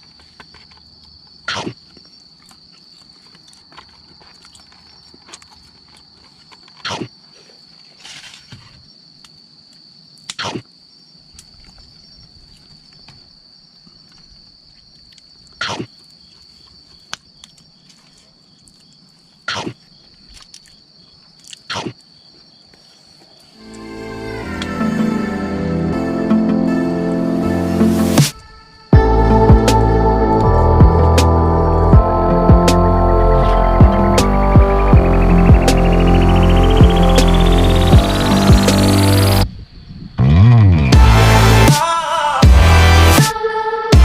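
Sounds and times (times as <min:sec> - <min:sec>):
crickets droning: 0:00.0 - 0:44.0.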